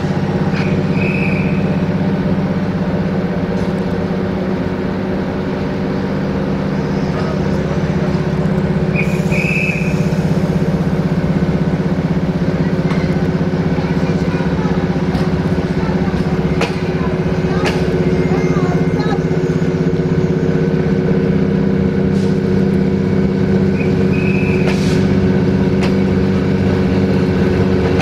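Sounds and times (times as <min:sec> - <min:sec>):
locomotive machinery drone: 0:00.0 - 0:28.0.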